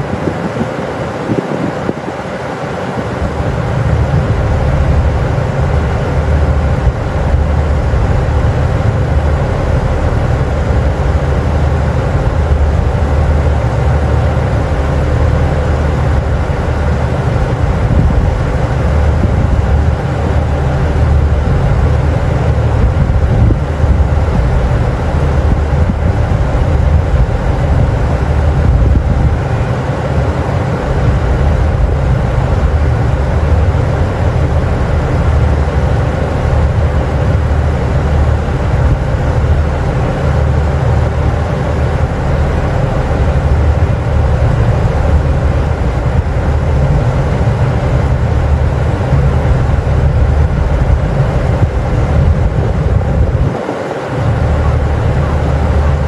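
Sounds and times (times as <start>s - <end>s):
diesel engine idling drone: 0.0s - 56.0s.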